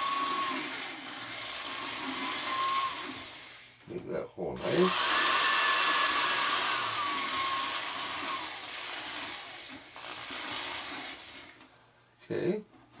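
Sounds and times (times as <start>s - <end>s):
electric drill whine: 0.0s - 3.8s, 4.6s - 11.6s.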